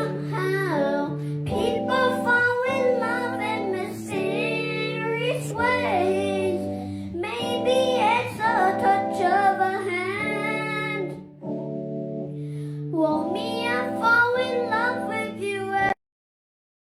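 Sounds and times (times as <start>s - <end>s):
young voice singing: 0.0s - 11.2s, 13.0s - 16.0s
accompaniment chords: 0.0s - 16.0s.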